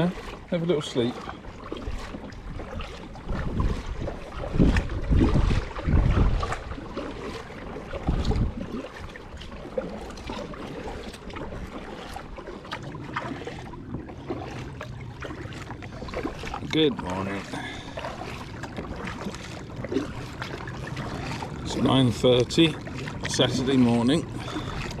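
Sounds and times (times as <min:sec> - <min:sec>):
paddle splashing water: 0:00.0 - 0:25.0
wind buffeting microphone: 0:01.1 - 0:25.0.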